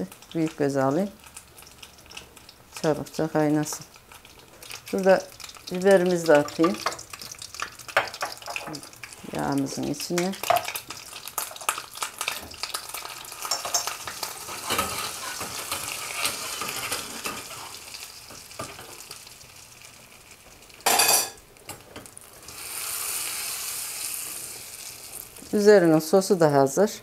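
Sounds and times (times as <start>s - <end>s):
butter sizzling in a pan: 0.0s - 26.4s.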